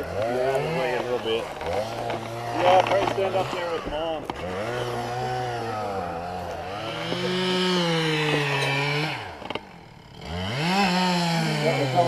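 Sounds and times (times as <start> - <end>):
chainsaw engine revving: 0.0 - 12.0.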